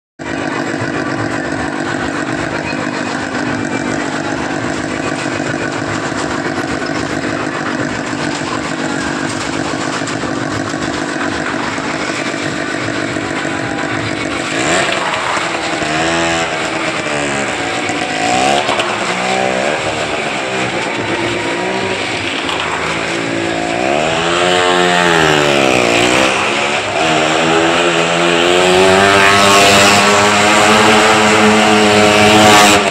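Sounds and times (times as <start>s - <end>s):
car and motorcycle engines: 0.2s - 32.9s.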